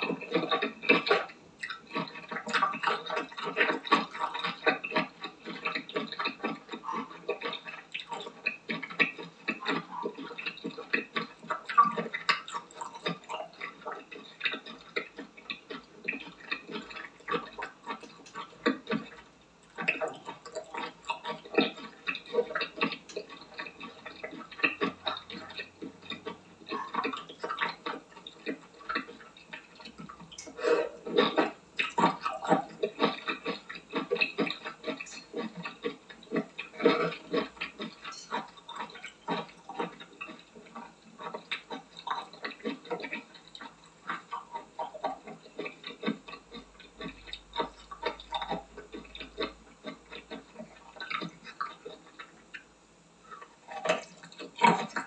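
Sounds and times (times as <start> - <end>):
wet chewing and sucking: 0.0 - 55.0.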